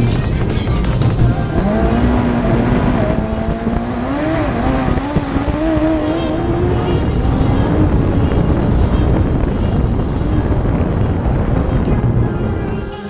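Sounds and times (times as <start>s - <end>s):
engine revving through a gear: 1.1s - 11.8s.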